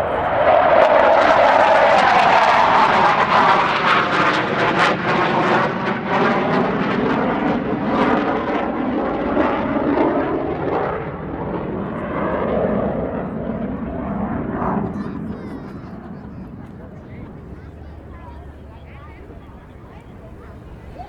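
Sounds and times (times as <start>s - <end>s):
fighter jet flying past: 0.0s - 21.0s.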